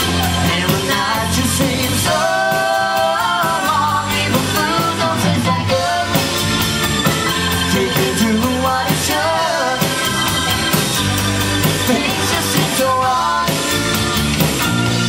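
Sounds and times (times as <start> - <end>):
person singing lead vocal: 0.0 - 6.6, 7.5 - 10.8, 11.6 - 14.1
live rock band playing: 0.0 - 15.0.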